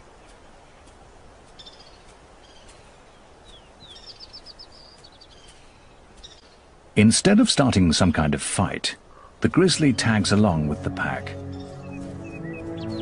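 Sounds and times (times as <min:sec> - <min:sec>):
faint outdoor ambience: 0:00.0 - 0:13.0
small birds chirping: 0:00.0 - 0:13.0.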